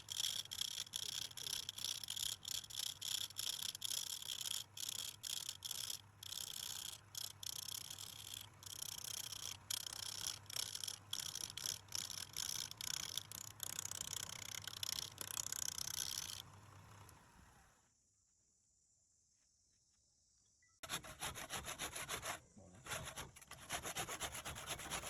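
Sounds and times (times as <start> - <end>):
chisel shaving spinning wood: 0.0 - 17.2, 20.8 - 25.0.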